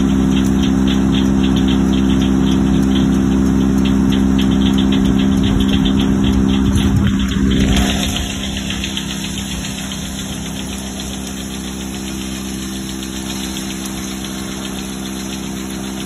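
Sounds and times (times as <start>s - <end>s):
sawmill humming: 0.0s - 16.0s.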